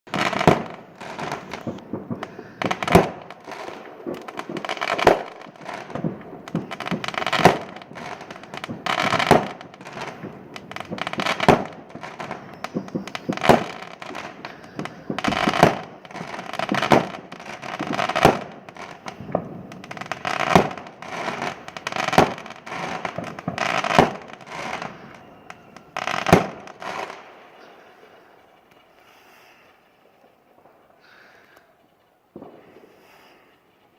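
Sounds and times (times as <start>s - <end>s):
fireworks bangs: 0.1s - 33.9s
fireworks crackling: 0.1s - 33.9s.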